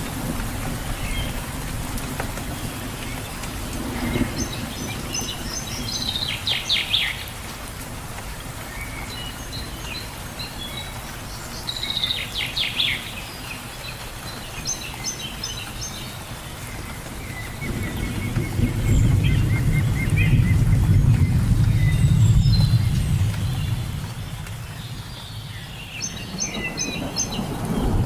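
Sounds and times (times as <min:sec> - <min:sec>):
rain falling: 0:00.0 - 0:28.0
songbirds chirping: 0:00.0 - 0:28.0.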